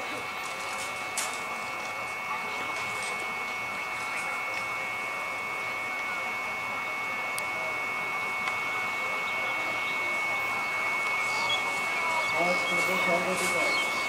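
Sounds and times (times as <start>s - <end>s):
electric train whine and hiss: 0.0s - 14.0s.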